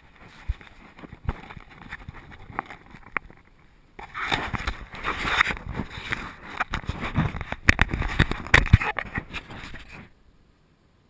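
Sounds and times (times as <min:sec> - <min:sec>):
rustling against microphone: 0:00.0 - 0:10.2.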